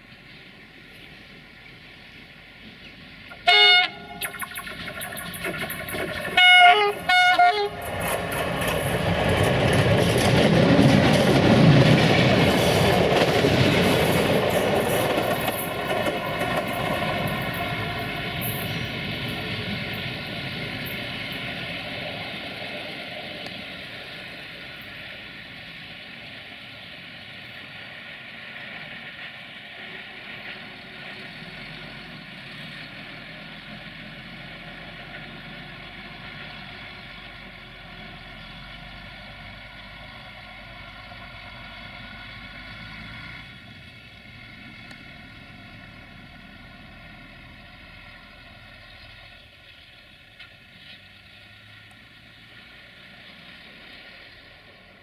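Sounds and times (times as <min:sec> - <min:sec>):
train engine hum: 0:00.0 - 0:55.0.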